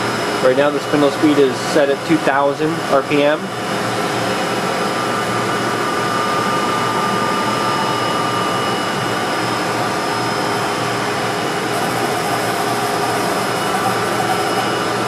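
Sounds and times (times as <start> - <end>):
machine spindle whirring and whining: 0.0 - 15.0.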